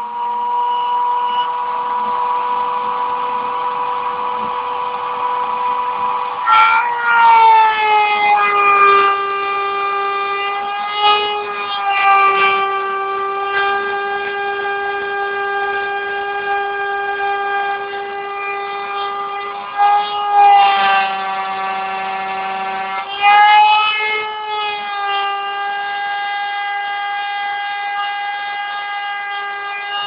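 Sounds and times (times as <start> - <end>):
cutter rasping material: 0.0 - 30.0
milling machine spindle whine: 0.0 - 30.0.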